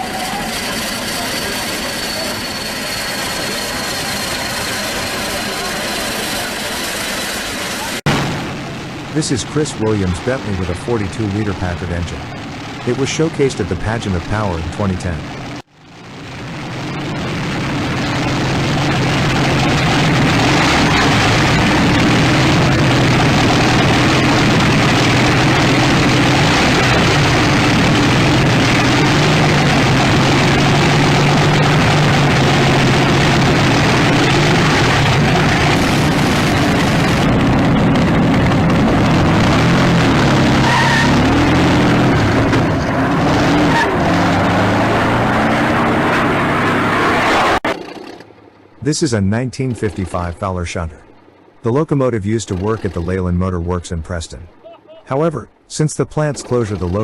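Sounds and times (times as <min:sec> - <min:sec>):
loud car engine running: 0:00.0 - 0:53.4, 0:56.2 - 0:57.0.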